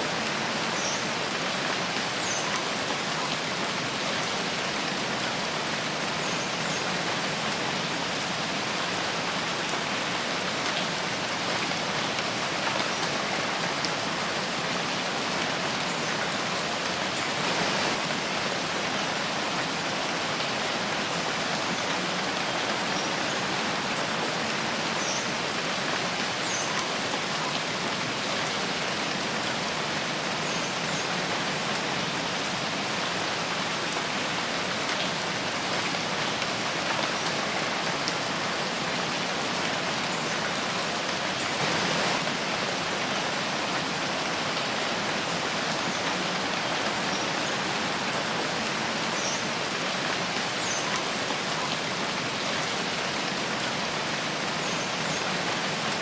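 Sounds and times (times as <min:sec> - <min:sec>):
rain in a forest: 0:00.0 - 0:56.0.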